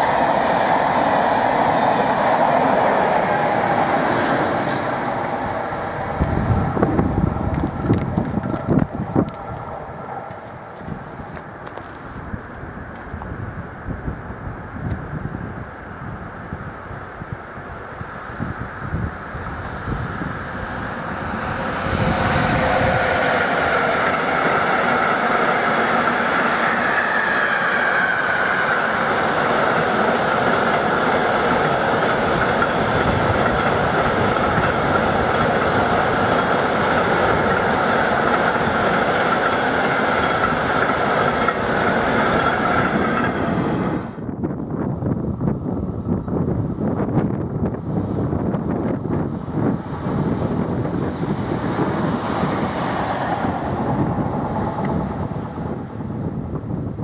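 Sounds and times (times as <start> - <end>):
electric train passing: 0.0 - 57.0.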